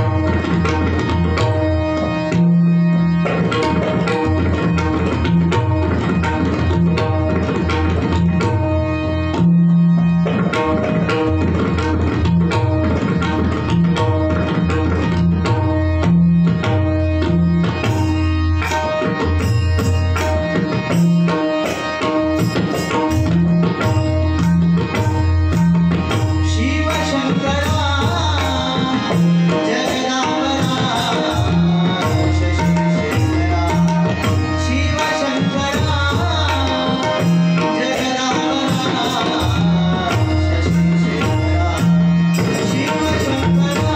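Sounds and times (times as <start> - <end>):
hand drums playing fast rhythm: 0.0 - 43.9.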